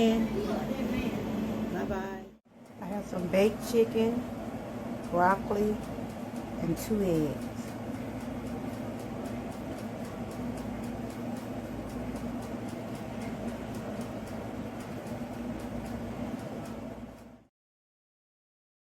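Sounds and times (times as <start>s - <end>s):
steady mechanical hum: 0.0s - 17.5s.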